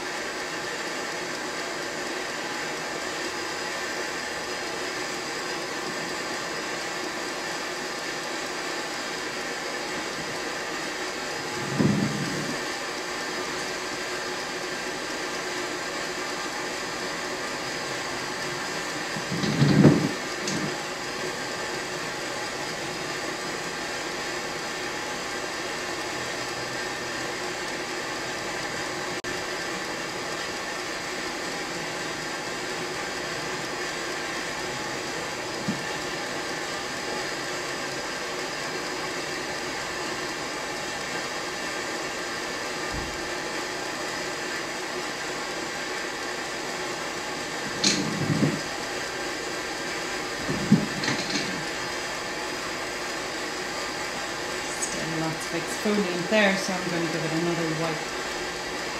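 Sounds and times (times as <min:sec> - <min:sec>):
machine hum: 0:00.0 - 0:58.9.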